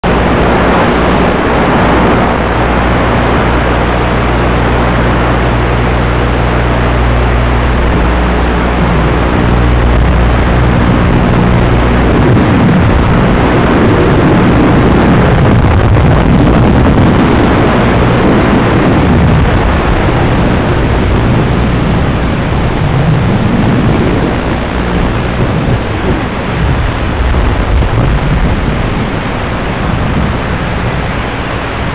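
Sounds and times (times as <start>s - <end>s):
loud rushing noise: 0.0s - 31.9s.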